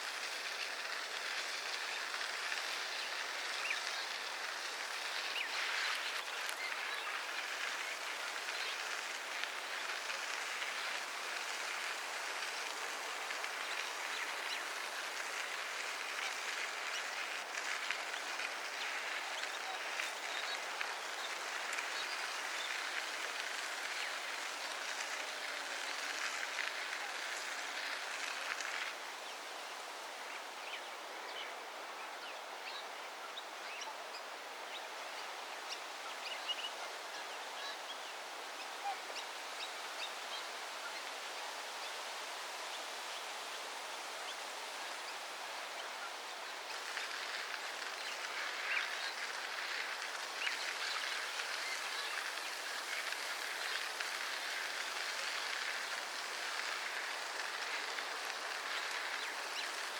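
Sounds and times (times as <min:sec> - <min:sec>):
outdoor background noise: 0:00.0 - 0:59.9.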